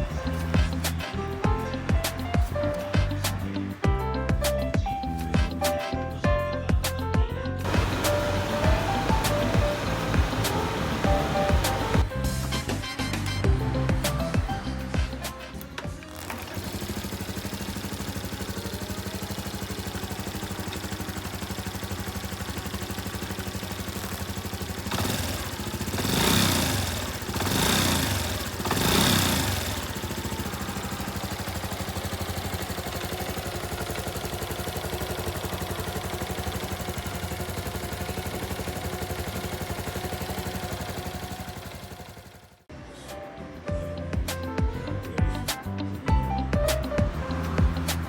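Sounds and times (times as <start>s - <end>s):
motorcycle engine idling: 0.0s - 43.0s, 43.8s - 48.0s.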